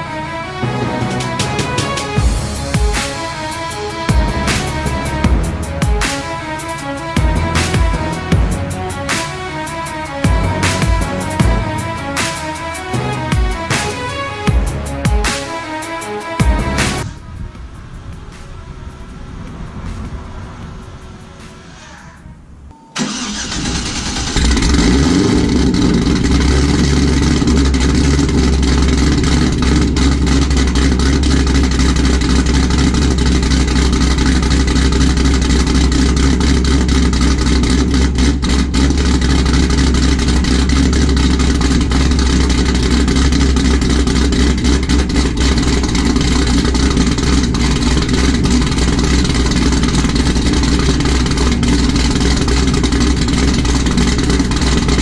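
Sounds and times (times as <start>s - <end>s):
car engine starting and idling: 0.0s - 55.0s.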